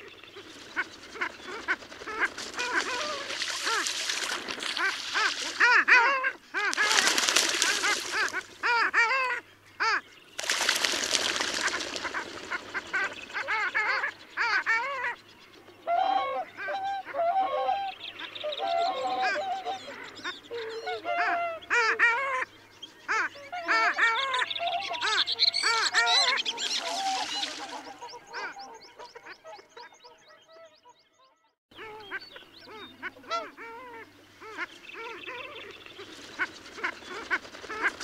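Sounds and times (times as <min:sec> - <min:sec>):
ducks calling: 0:00.0 - 0:31.2, 0:31.8 - 0:38.0.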